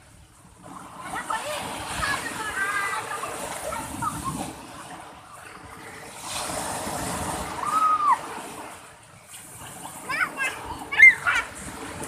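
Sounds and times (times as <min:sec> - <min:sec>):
wave rushing in: 0:00.0 - 0:12.0.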